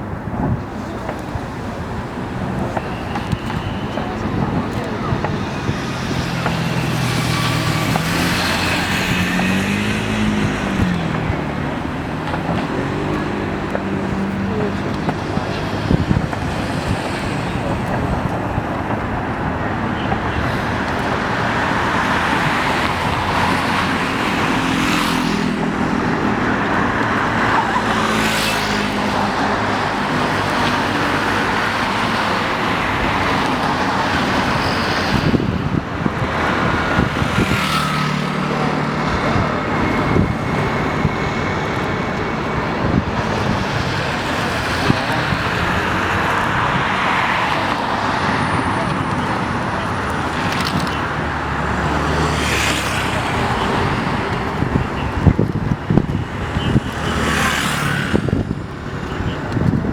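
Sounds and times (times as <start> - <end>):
street traffic noise: 0.0 - 59.9.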